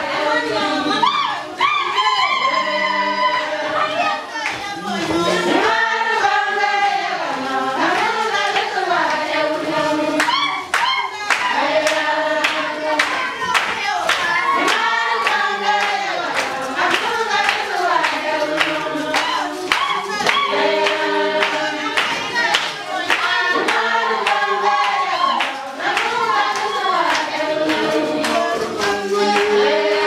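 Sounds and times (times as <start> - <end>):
rhythmic handclaps: 0.0 - 30.0
women singing together: 0.0 - 30.0.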